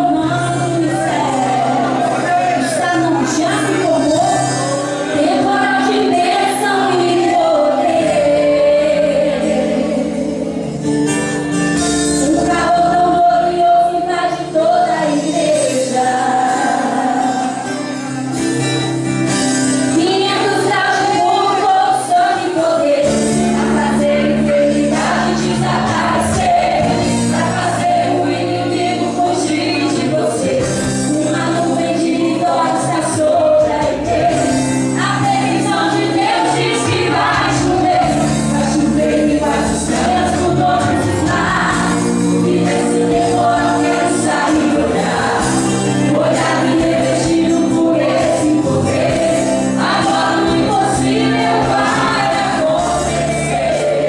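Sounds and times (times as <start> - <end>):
woman singing into a microphone: 0.0 - 10.6, 12.2 - 17.8, 19.9 - 54.0
instrumental accompaniment: 0.0 - 54.0.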